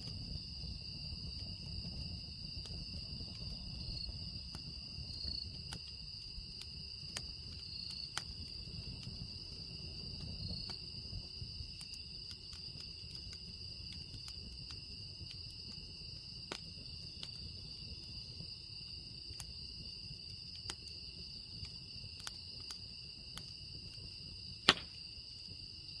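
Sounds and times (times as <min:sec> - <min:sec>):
loud fire snap: 0:00.0 - 0:26.0
wood fire crackling and popping: 0:00.0 - 0:26.0
insects chirring: 0:00.1 - 0:26.0.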